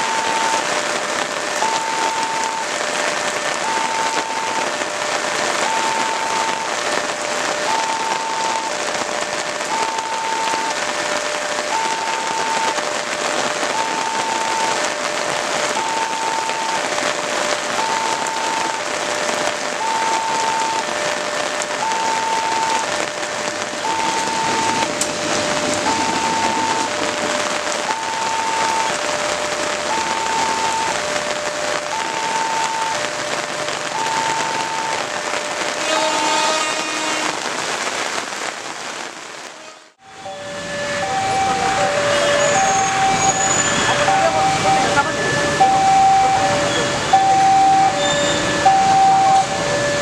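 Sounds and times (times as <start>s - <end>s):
railroad crossing two-tone alarm: 0.0s - 37.3s, 39.6s - 50.0s
rain hiss: 0.0s - 50.0s.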